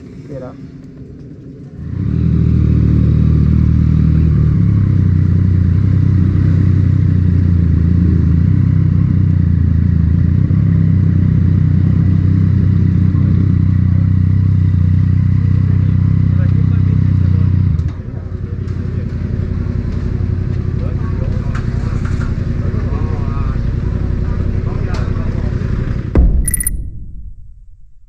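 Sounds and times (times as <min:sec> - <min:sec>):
motorcycle engine running steadily: 0:00.0 - 0:26.8.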